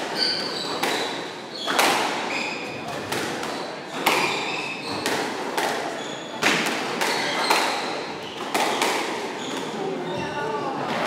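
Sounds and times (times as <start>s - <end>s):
squash ball hitting rackets and walls: 0.0s - 11.0s.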